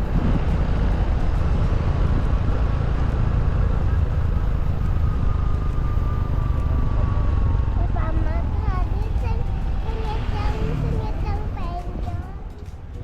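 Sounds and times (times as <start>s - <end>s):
vehicle rumble with road noise: 0.0s - 13.0s.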